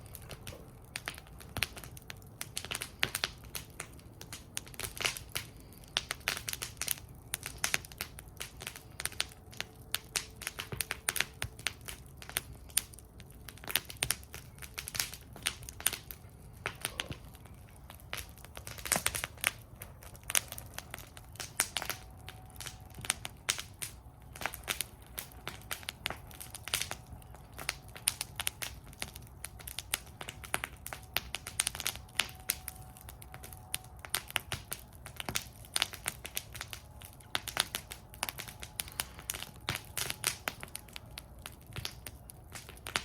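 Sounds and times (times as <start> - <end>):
low rumble of flames: 0.0 - 43.0
wood fire crackling and popping: 0.0 - 43.0.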